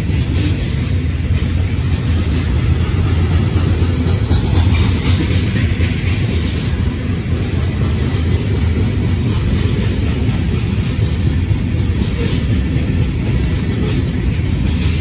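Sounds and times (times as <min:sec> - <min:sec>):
freight car wheels rumbling on rail: 0:00.0 - 0:15.0.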